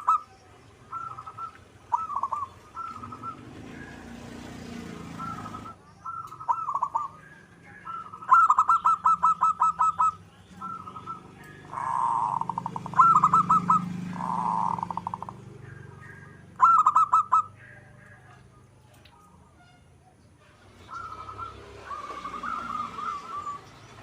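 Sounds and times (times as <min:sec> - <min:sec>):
dove cooing: 0:00.0 - 0:18.4, 0:20.8 - 0:24.0.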